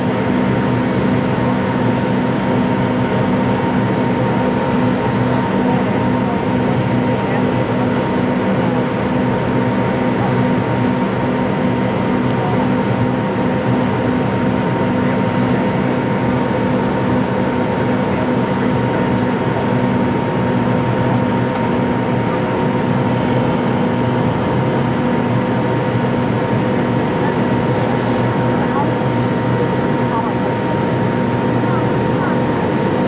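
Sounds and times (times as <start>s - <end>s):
jet engines running steadily: 0.0s - 33.0s
steady hum tones: 0.0s - 33.0s.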